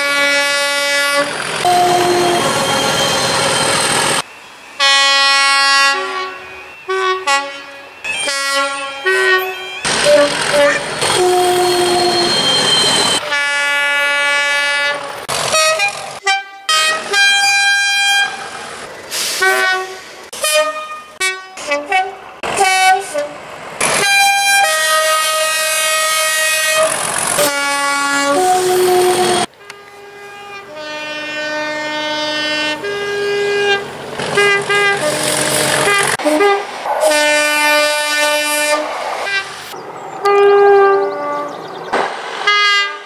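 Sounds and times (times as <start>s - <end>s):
two-tone train air horn: 0.0s - 3.7s, 4.8s - 18.5s, 19.1s - 23.4s, 24.0s - 39.6s, 40.2s - 41.5s, 42.4s - 43.0s
passing train: 0.0s - 43.0s.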